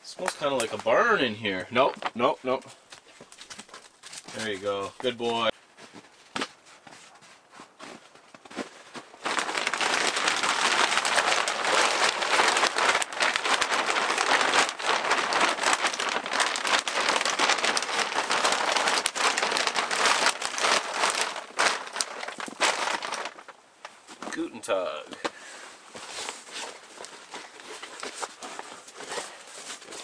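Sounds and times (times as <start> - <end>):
plastic sheeting crinkling: 3.2 - 24.5, 25.2 - 30.0.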